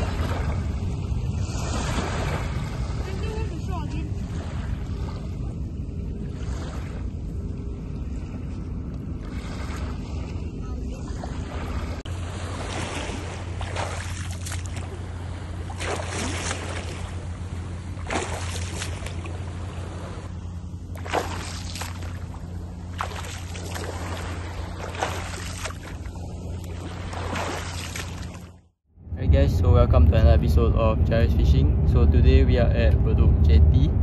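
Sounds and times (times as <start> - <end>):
small waves lapping: 0.0 - 28.7
steady low rumble: 0.0 - 34.0.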